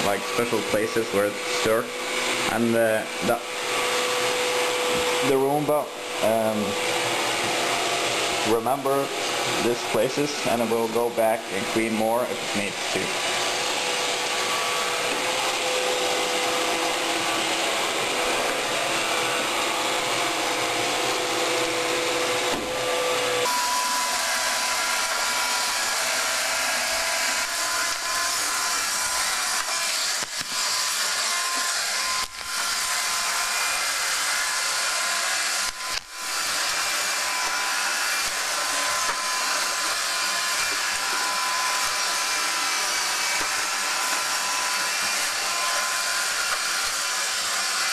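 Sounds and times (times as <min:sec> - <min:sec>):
robot vacuum whirring: 0:00.0 - 0:47.9.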